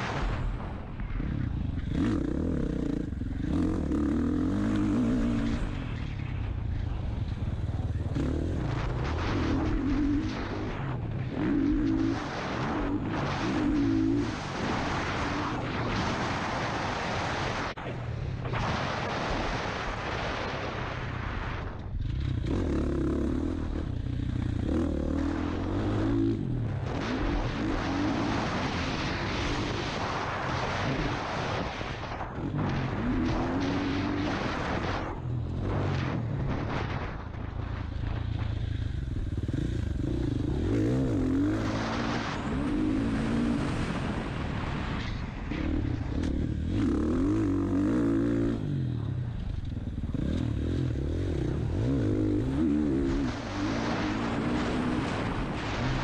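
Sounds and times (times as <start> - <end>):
dirt bike engine revving: 0.0 - 17.8, 21.4 - 56.0.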